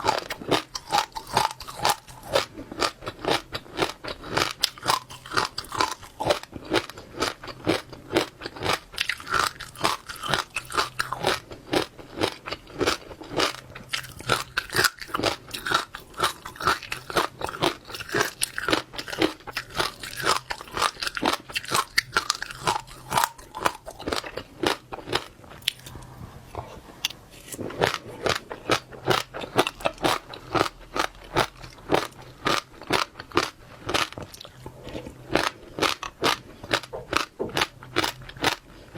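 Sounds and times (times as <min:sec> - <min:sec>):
chewing crunchy seeds: 0:00.0 - 0:38.9.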